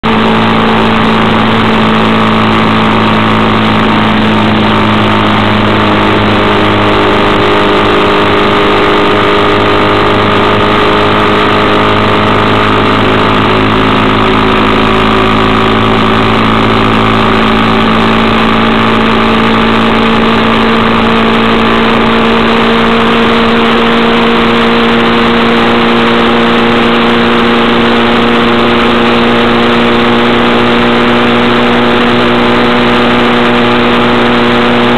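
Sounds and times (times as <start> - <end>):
road noise rush: 0.0 - 34.9
vehicle engine drone: 0.0 - 34.9.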